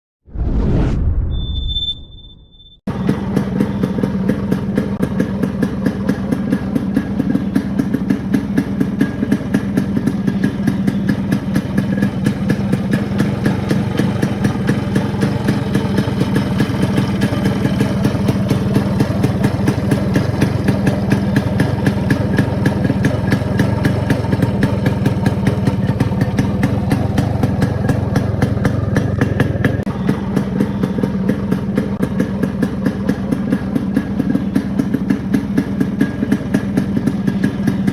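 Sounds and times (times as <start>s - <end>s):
motorcycle engine idling: 2.9s - 37.9s.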